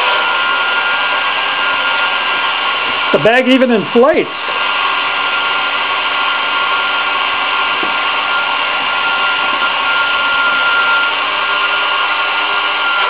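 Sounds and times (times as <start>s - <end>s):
toy vacuum motor whining: 0.0s - 13.0s.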